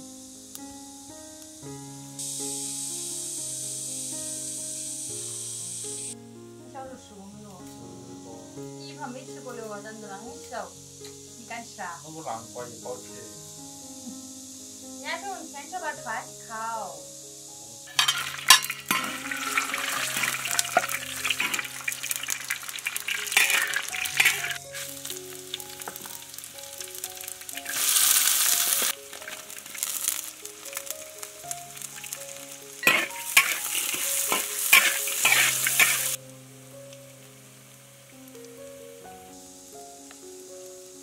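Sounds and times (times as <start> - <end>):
food sizzling in hot oil: 0.0 - 41.0
soft background music: 0.0 - 41.0.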